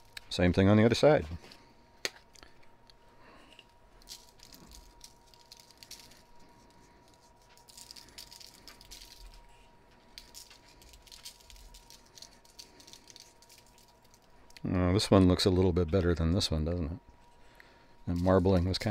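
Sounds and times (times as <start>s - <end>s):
thin high hum: 0.0s - 18.9s.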